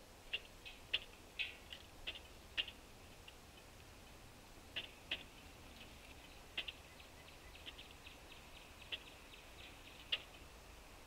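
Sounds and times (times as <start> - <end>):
woodpecker bill tapping: 0.2 - 10.5.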